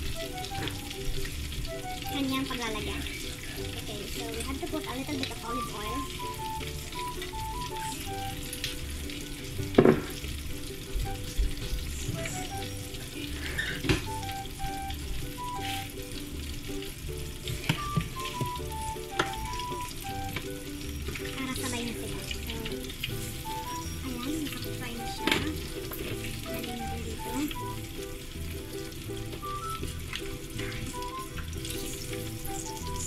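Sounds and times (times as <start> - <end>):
simple tune of short notes: 0.0 - 3.1, 4.0 - 9.2, 10.9 - 16.2, 17.4 - 33.0
oil sizzling and bubbling: 0.0 - 33.0.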